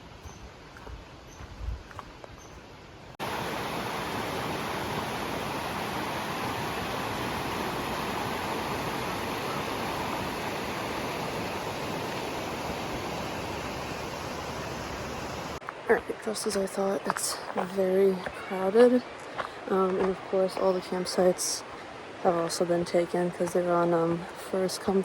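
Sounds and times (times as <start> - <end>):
river water rushing: 3.0 - 25.0.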